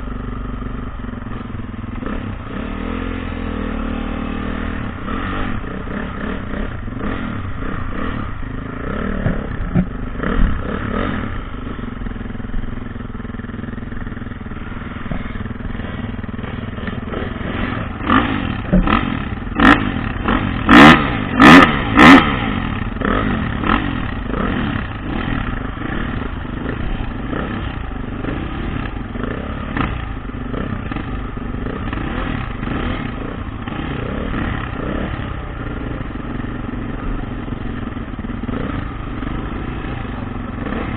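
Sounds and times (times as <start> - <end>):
dirt bike engine revving: 1.2 - 40.9.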